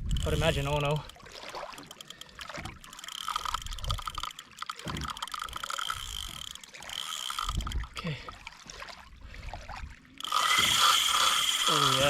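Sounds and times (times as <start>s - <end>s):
fishing reel drag buzzing: 0.0s - 8.0s, 10.2s - 12.0s
water sloshing against kayak: 0.0s - 12.0s.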